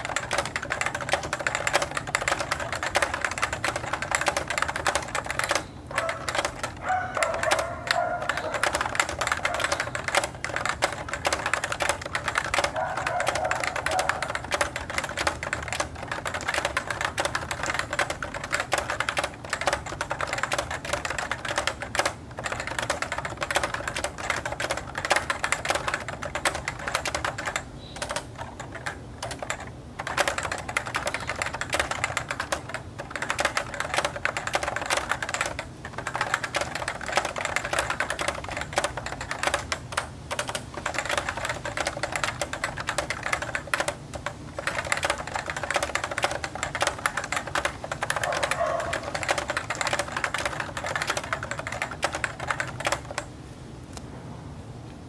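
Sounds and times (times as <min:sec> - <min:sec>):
fast typing on keyboard: 0:00.0 - 0:53.3.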